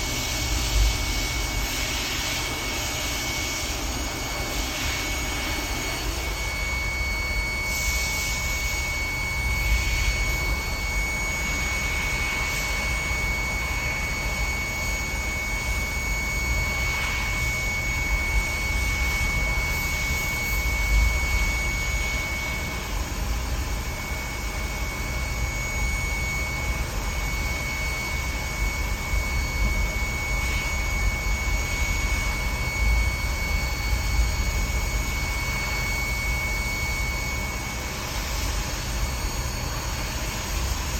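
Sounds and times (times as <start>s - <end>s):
high-pitched whine: 0.0s - 40.9s.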